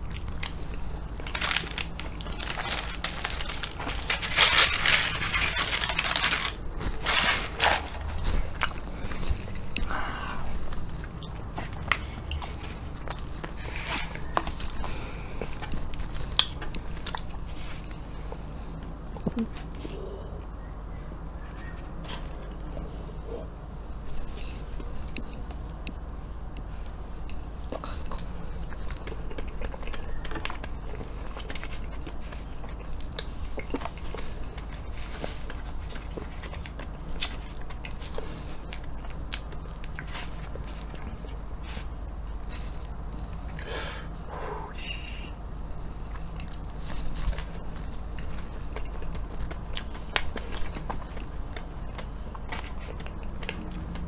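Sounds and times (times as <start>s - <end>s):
close chewing: 0.0s - 20.6s, 21.4s - 44.2s, 45.6s - 54.0s
steady low hum: 0.0s - 54.0s.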